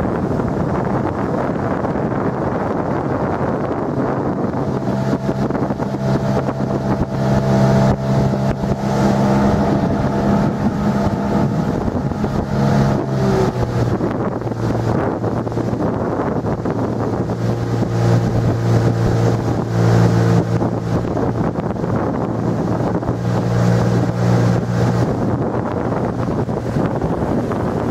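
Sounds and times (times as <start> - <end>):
outboard motor running: 0.0 - 27.9
wind buffeting microphone: 0.0 - 27.9.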